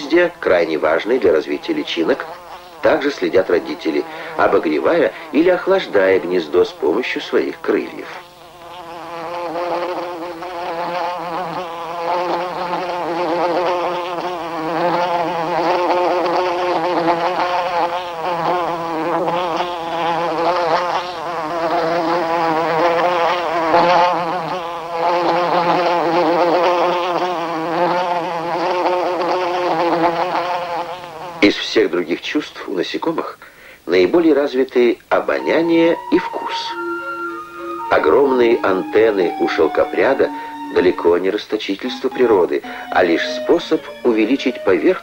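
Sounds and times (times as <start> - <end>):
wasps buzzing: 0.0 - 32.4, 33.6 - 45.0.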